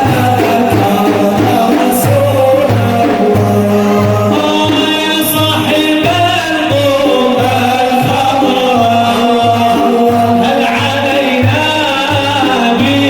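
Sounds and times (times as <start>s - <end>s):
devotional song sung: 0.0s - 13.0s
steady drum beat: 0.0s - 13.0s.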